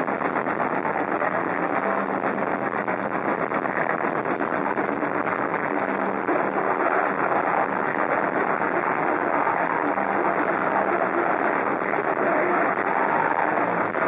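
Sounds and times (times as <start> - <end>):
metal band playing live: 0.0 - 14.0.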